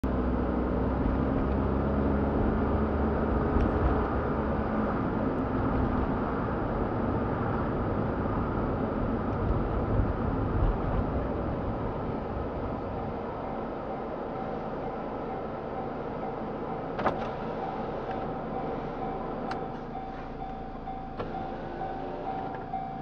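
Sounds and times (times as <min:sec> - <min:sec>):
car engine hum: 0:00.0 - 0:23.0
road and tyre noise: 0:00.0 - 0:23.0.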